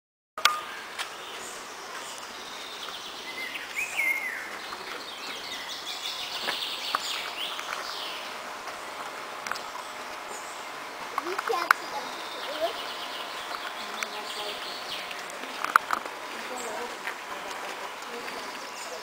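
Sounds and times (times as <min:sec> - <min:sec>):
birds chirping and singing: 0:00.5 - 0:19.0.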